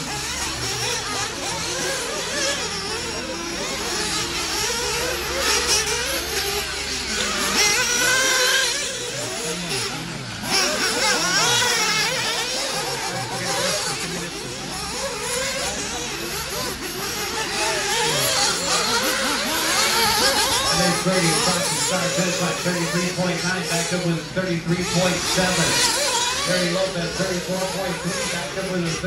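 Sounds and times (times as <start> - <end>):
rc car motors whining: 0.0 - 29.0.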